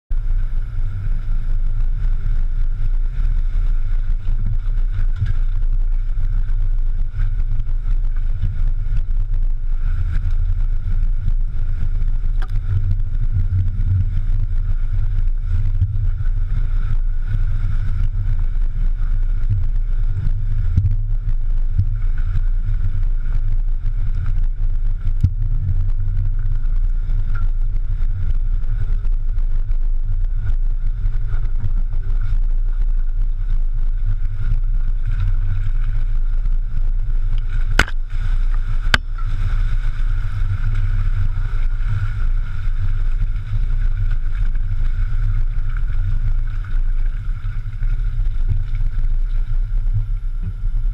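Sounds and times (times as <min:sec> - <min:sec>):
off-road vehicle rumbling: 0:00.0 - 0:50.9.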